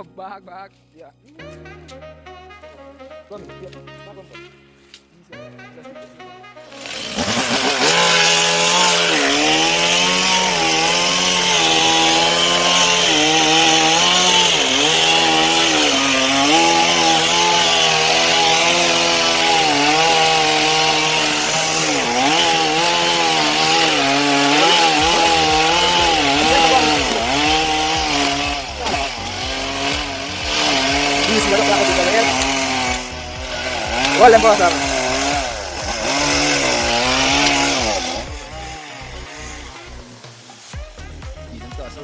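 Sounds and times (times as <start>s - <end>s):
chainsaw cutting wood: 6.6s - 42.0s.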